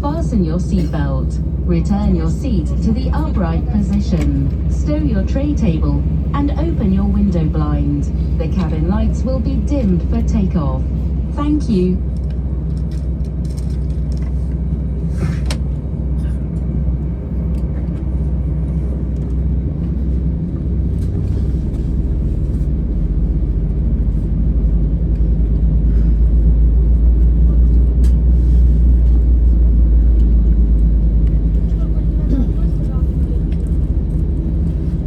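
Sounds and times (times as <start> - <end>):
jet engine cabin rumble: 0.0 - 35.0.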